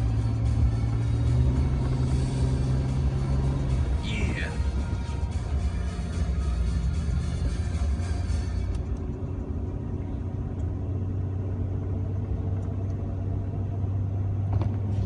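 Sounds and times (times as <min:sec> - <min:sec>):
engine droning inside cab: 0:00.0 - 0:15.0.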